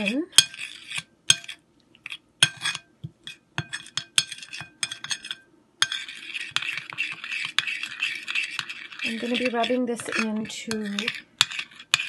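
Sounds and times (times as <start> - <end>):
spoon scraping ceramic bowl: 0.0 - 12.0.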